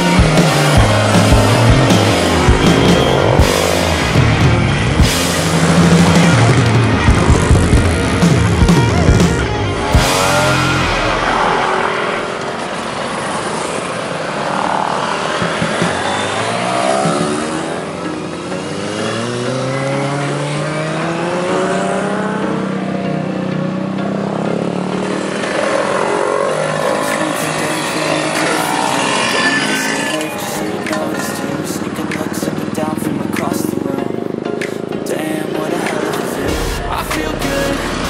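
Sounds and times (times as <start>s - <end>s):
motorcycle and scooter engines passing: 0.0s - 38.0s.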